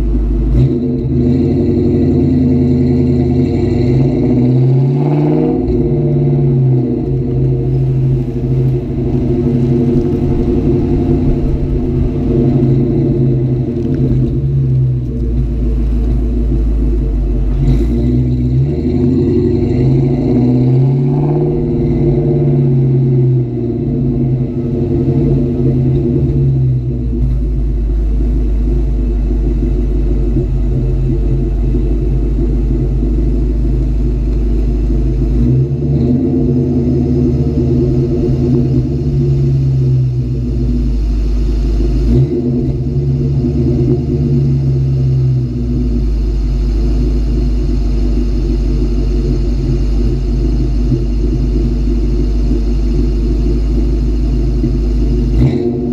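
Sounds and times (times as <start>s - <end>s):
car engine running: 0.0s - 55.9s.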